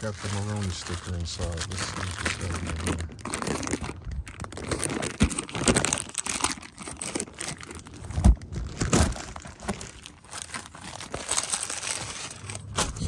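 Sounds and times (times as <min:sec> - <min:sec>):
plastic pouch crinkling: 0:00.0 - 0:12.8.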